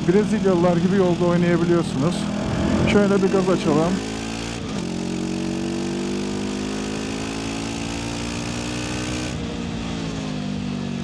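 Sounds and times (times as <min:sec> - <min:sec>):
motorcycle engine accelerating: 0:00.0 - 0:10.9.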